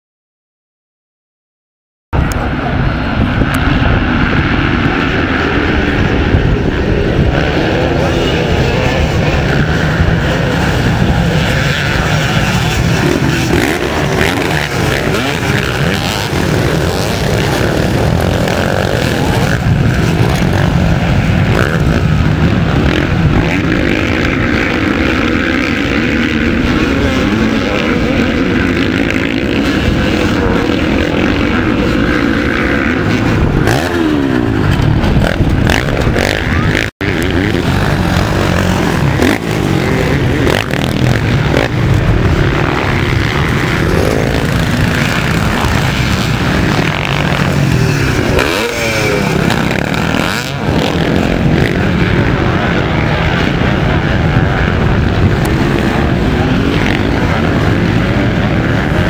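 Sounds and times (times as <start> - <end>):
motocross motorcycles racing past: 2.2 - 59.0.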